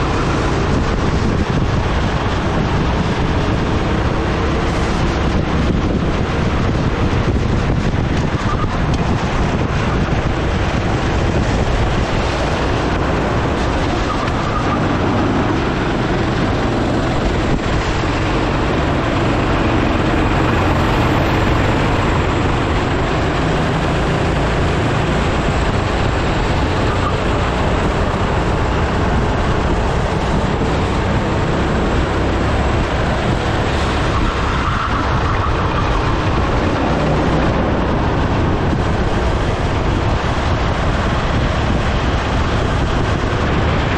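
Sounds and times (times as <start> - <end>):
kart engine running hard: 0.0 - 43.9
rushing air: 0.0 - 43.9.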